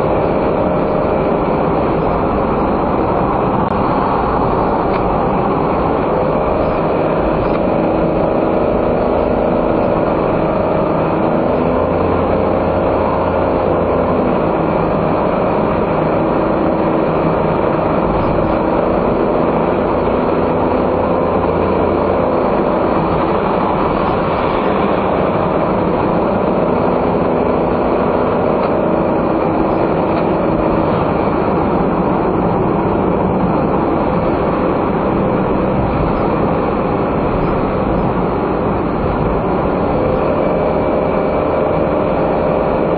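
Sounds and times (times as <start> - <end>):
road and tyre noise: 0.0 - 42.9
small car engine hum: 0.0 - 42.9.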